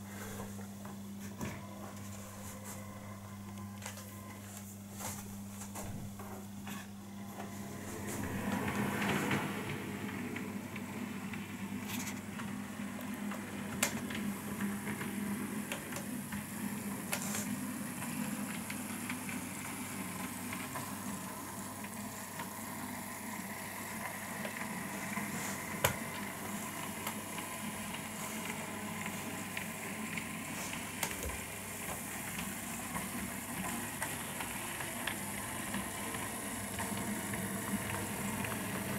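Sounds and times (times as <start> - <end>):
wheels rolling on rails: 7.3 - 38.9.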